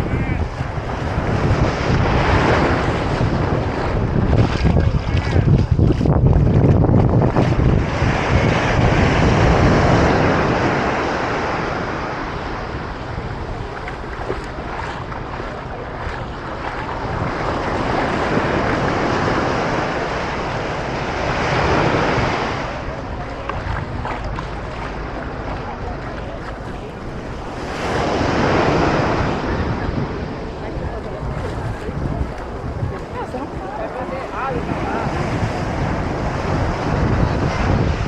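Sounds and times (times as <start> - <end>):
surf breaking on beach: 0.0 - 38.0
wind buffeting microphone: 0.0 - 38.0.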